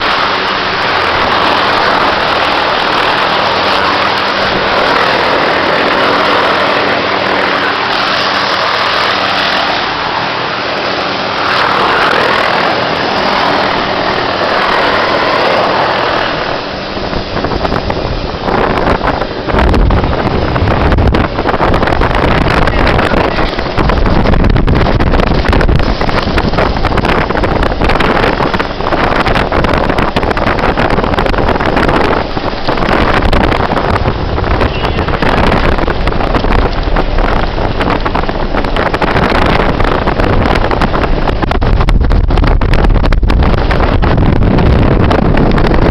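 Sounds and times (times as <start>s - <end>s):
helicopter turbine and rotor: 0.0s - 45.9s.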